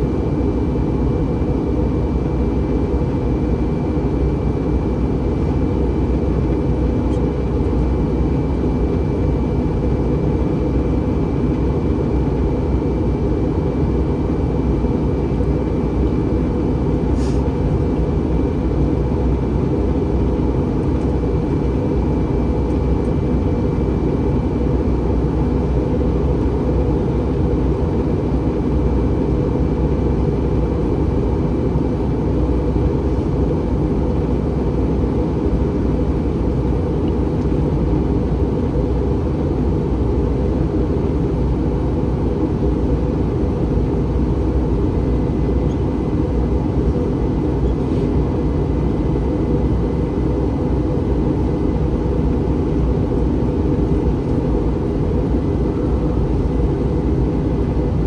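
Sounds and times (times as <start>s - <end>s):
airliner cabin engine noise: 0.0s - 58.0s.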